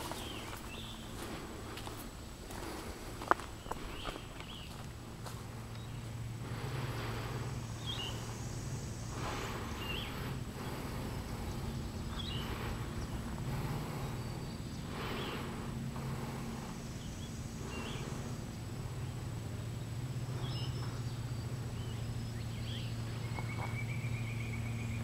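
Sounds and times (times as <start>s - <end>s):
bird chirping: 0.0s - 1.2s, 3.5s - 4.9s, 5.7s - 25.0s
steady low hum: 0.0s - 25.0s.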